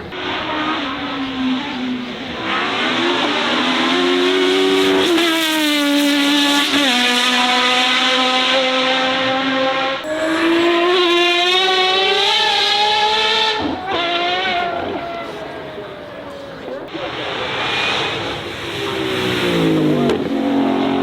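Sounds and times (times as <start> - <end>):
car engine revving hard: 0.1 - 15.3, 17.1 - 21.0.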